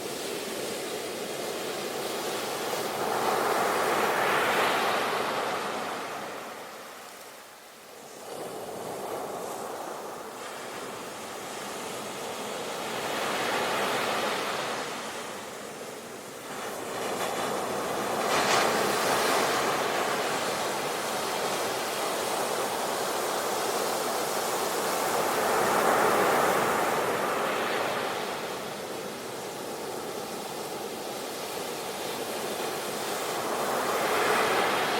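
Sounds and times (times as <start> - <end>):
ocean waves breaking on a beach: 0.0 - 34.9.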